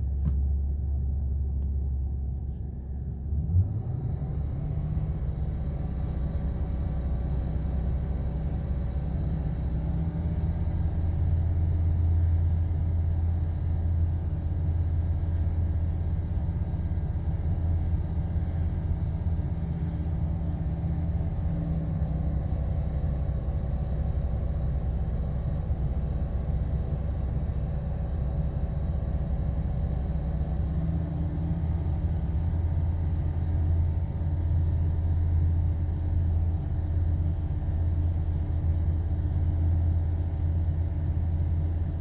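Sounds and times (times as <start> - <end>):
engine running with low rumble: 0.0 - 42.0.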